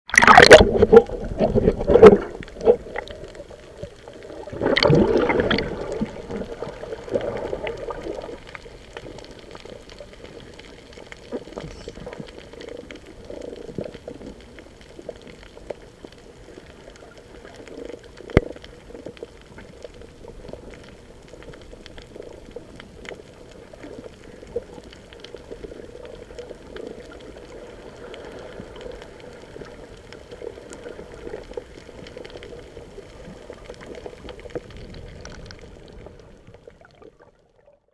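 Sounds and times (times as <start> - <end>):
water gushes: 0.1 - 37.6
water bubbling and sloshing: 0.1 - 37.9.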